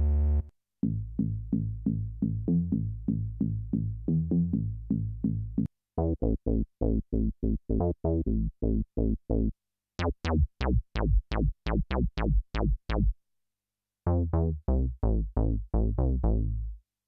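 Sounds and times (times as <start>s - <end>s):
synthesizer bass note patterns: 0.0s - 13.1s, 14.1s - 16.8s.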